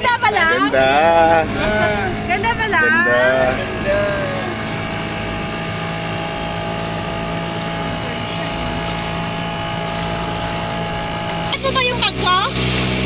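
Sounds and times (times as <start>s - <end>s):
boat engine droning: 0.0s - 13.0s
water and wind hiss: 0.0s - 13.0s.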